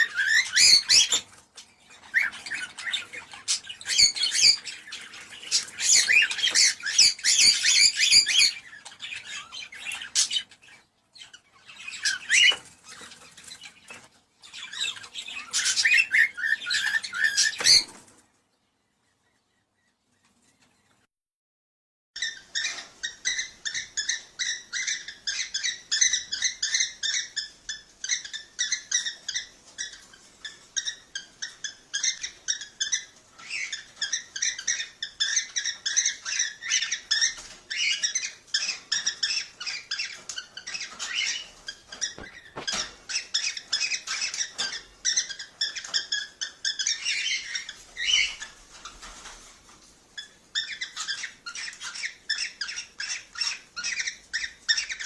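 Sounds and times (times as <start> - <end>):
cockatiels chirping: 0.0 - 18.2, 22.2 - 55.0.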